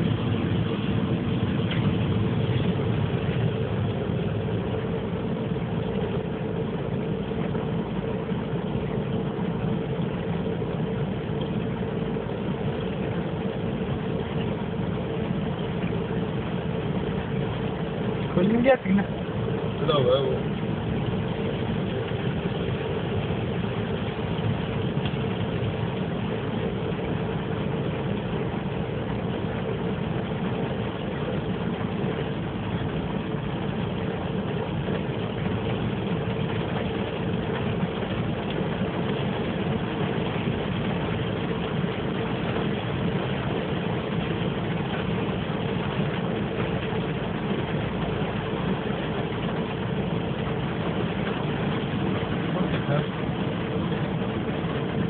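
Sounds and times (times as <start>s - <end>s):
car engine humming: 0.0s - 55.0s
rain on car: 0.0s - 55.0s.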